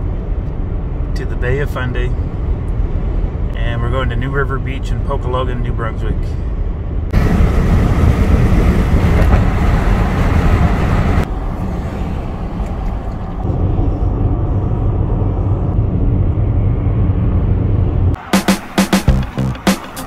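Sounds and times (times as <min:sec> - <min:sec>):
car road noise rumble: 0:00.0 - 0:20.0.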